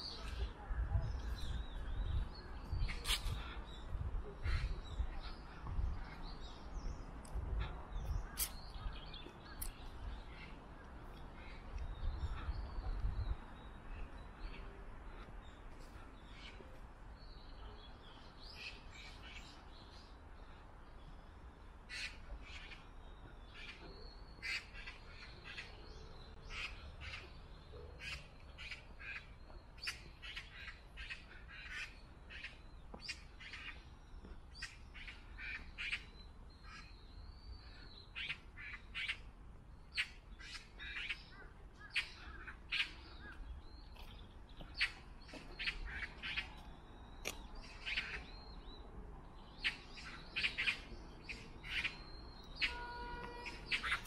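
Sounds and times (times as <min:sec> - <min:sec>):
many birds calling: 0:00.0 - 0:54.0.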